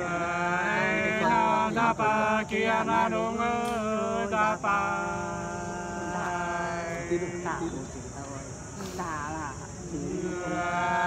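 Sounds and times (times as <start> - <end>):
two men singing unaccompanied: 0.0 - 11.0.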